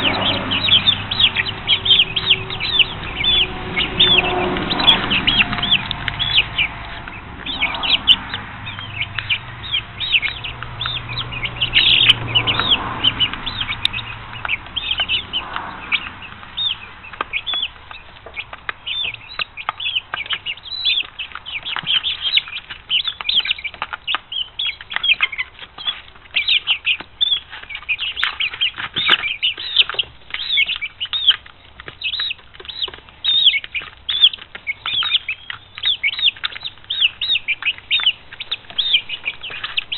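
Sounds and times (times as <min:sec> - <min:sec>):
beaks pecking plastic feeder: 0:00.0 - 0:39.9
chicks peeping: 0:00.0 - 0:39.9.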